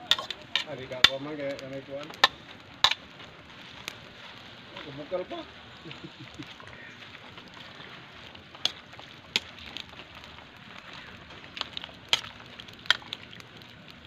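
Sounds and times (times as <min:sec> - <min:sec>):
low steady hiss: 0:00.0 - 0:14.0
stew bubbling in a pot: 0:00.0 - 0:14.0.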